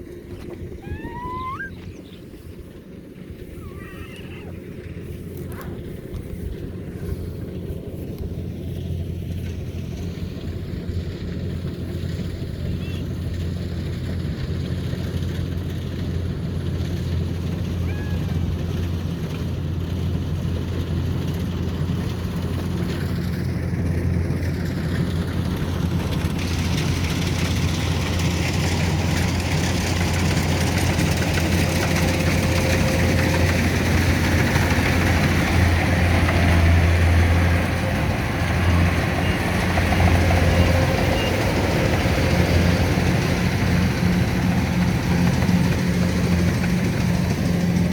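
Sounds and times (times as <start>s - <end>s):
harvester engine humming: 0.0s - 47.9s.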